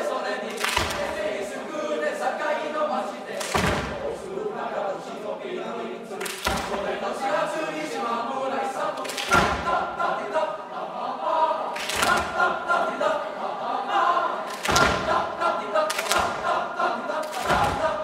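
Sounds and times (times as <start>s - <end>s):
boys' choir singing: 0.0s - 18.0s.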